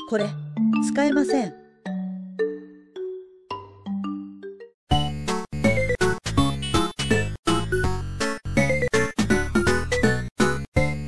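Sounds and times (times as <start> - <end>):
upbeat bouncy background music: 0.0 - 11.0.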